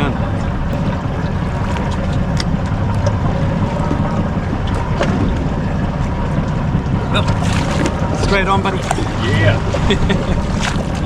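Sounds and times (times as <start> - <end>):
water around a boat: 0.0 - 11.0
wind: 0.0 - 11.0.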